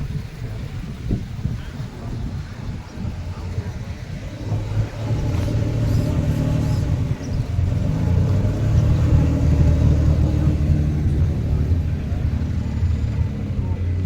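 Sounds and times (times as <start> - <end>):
car engine deep rumble: 0.0 - 14.0.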